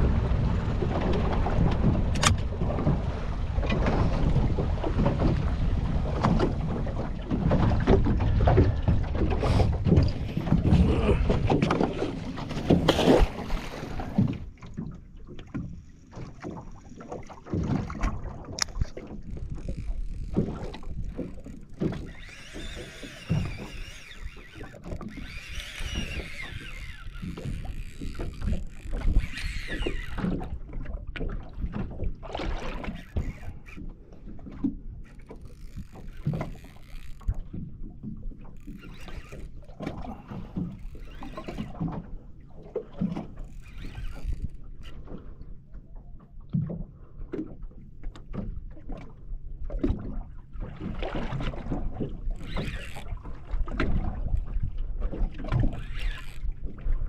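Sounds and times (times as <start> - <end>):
water slapping boat hull: 0.0 - 57.0.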